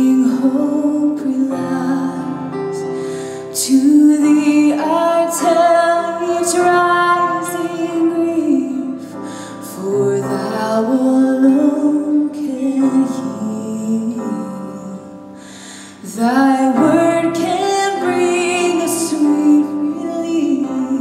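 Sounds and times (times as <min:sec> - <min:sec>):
woman singing a hymn: 0:00.0 - 0:15.2, 0:16.0 - 0:21.0.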